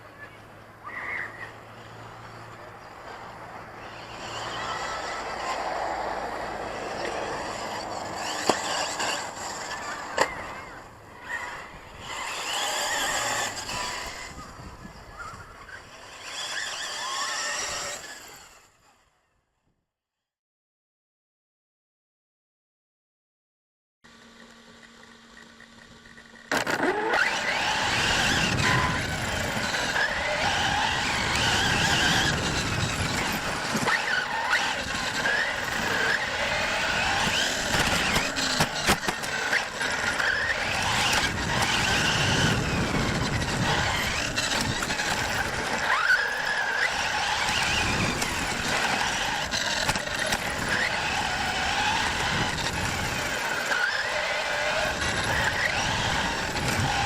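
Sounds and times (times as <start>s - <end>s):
remote-control car motor whine: 0.2s - 19.6s, 24.1s - 57.0s.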